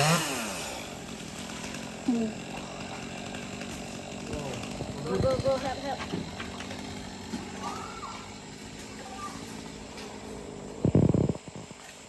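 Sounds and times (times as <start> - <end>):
engine idling: 0.9 - 11.7.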